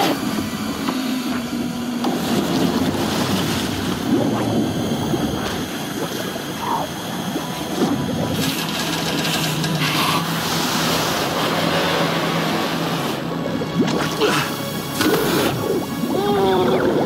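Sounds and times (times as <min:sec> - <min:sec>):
churning water rushing hiss: 0:00.0 - 0:17.0
steady low hum: 0:00.0 - 0:17.0.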